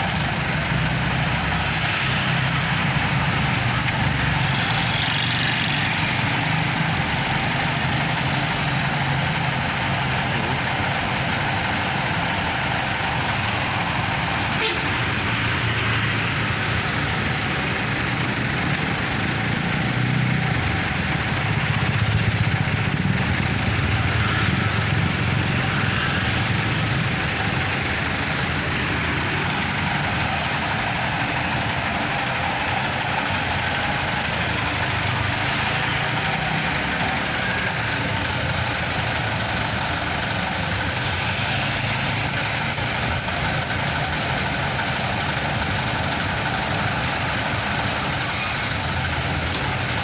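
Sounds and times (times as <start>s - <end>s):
truck and bus engines idling: 0.0s - 50.0s.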